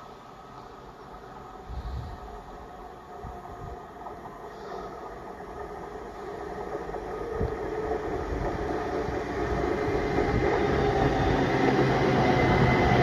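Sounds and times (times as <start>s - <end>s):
high train whine: 0.0s - 13.0s
passenger train rumbling: 0.0s - 13.0s.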